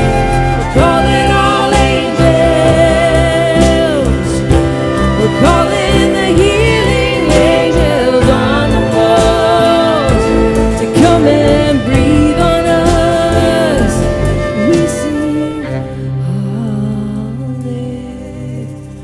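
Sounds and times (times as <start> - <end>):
keyboard and band accompaniment: 0.0 - 19.0
woman singing: 0.0 - 19.0.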